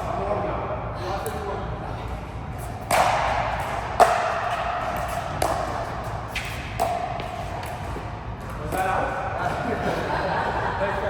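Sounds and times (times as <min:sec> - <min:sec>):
racket strikes echoing in hall: 0:00.0 - 0:11.0.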